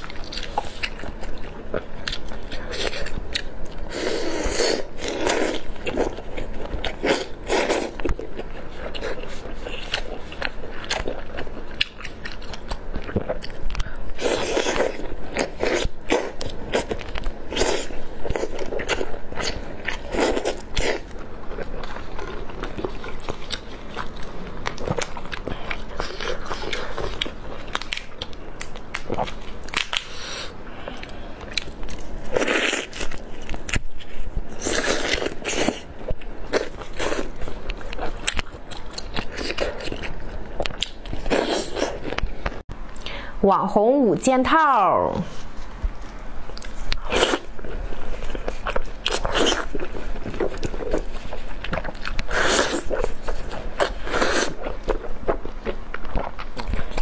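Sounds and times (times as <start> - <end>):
crunchy chewing: 0.0 - 42.6, 45.4 - 57.0.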